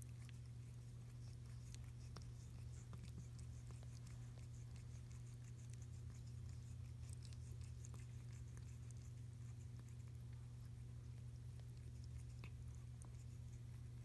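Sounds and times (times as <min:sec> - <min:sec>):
cat licking and chewing: 0:00.0 - 0:14.0.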